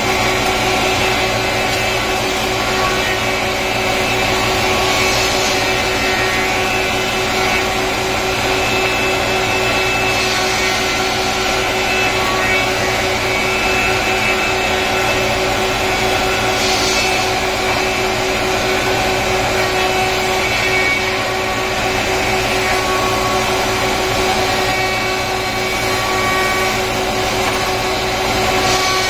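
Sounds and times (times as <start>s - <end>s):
wood planer running: 0.0s - 29.0s.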